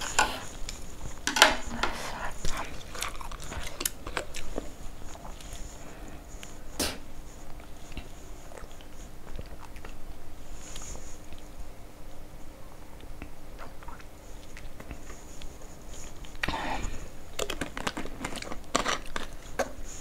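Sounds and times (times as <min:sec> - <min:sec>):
person chewing noodles: 0:00.0 - 0:11.6, 0:13.0 - 0:20.0.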